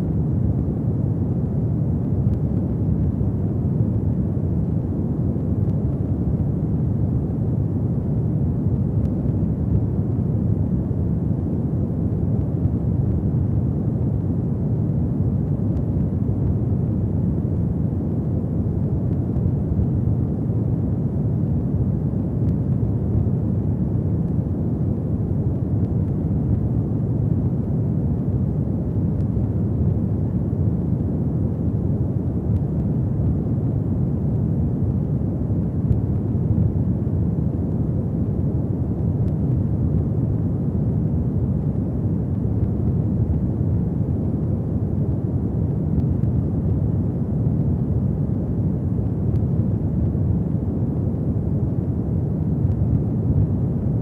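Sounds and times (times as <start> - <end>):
fireplace fire burning: 0.1 - 54.0.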